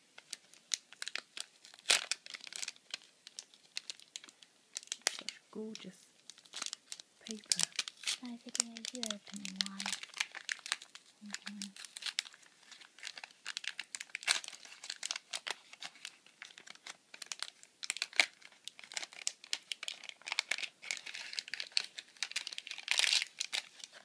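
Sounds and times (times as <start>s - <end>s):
wrapping paper crinkling: 0.0s - 24.0s.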